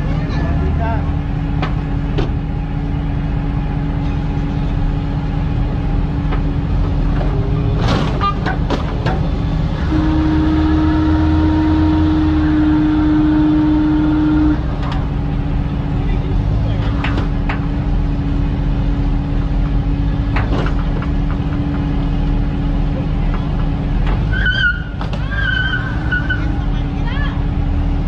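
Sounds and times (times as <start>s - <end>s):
truck engine humming: 0.0s - 28.0s.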